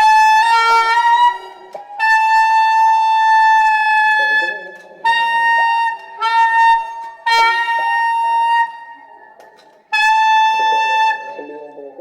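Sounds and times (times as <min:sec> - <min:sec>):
saxophone growling held notes: 0:00.0 - 0:12.0.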